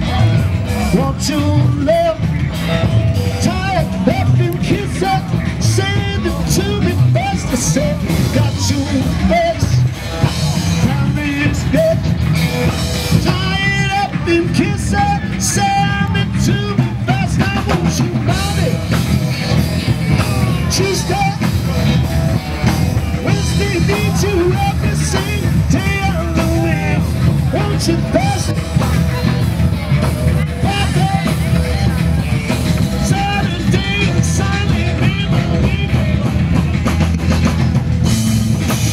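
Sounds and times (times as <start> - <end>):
drum kit playing: 0.0 - 38.9
rock music with singer: 0.0 - 38.9.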